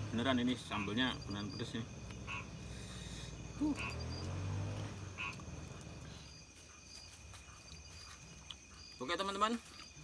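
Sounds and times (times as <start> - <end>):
crickets and insects droning: 0.0 - 10.0
frogs calling: 0.0 - 10.0.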